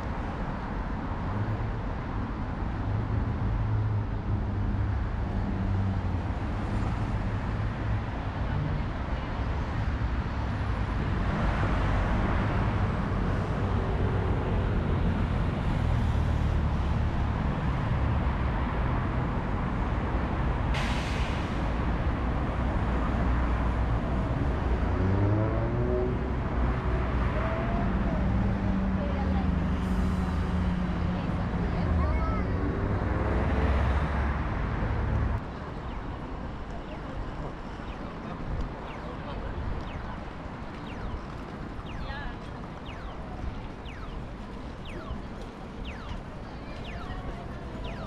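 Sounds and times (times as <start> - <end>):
city traffic rumble: 0.0 - 48.0.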